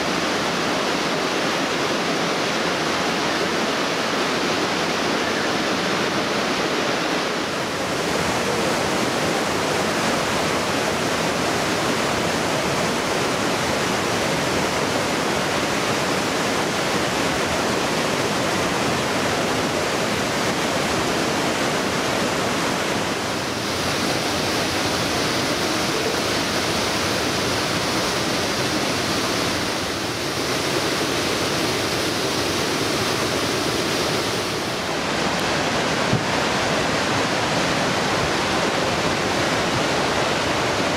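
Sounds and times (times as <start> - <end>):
river rushing through gorge: 0.0 - 40.9.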